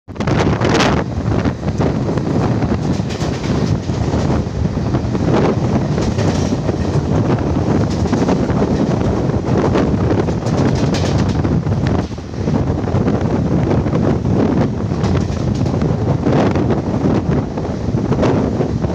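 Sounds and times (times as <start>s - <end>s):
train rumbling at high speed: 0.1s - 18.9s
wind buffeting microphone: 0.1s - 18.9s.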